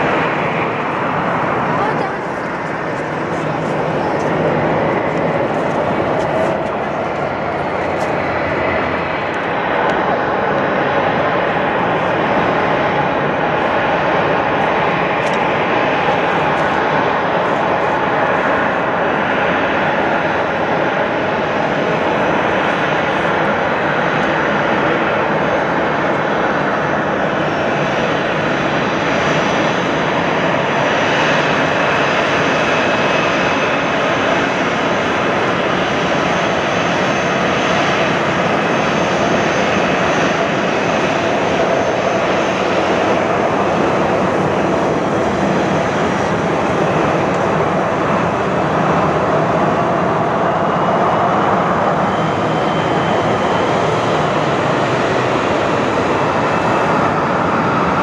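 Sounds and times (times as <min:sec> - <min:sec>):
jet engines rushing: 0:00.0 - 0:58.0.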